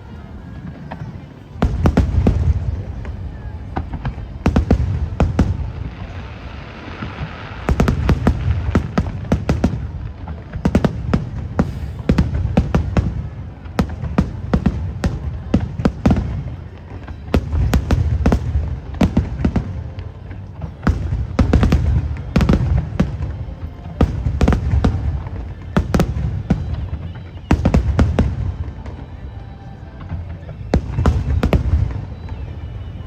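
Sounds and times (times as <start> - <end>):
continuous low rumble: 0.0 - 33.0
fireworks bangs and crackles: 0.0 - 33.0.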